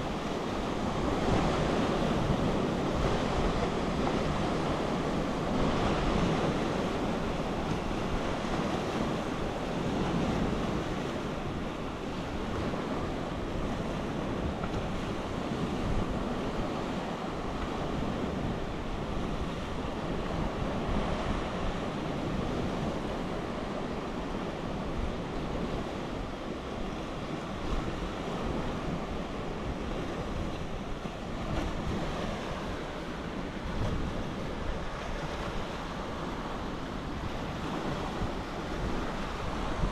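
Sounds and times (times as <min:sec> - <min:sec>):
sea surf washing onto shore: 0:00.0 - 0:39.9
wind buffeting microphone: 0:00.0 - 0:39.9.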